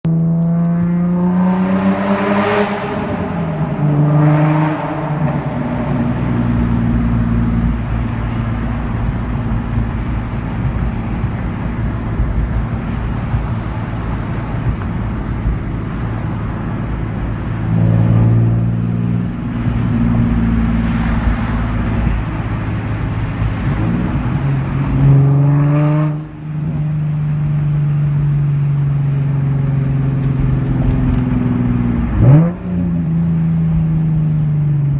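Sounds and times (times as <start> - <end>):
loud car exhaust revving: 0.1 - 27.1, 31.7 - 33.2.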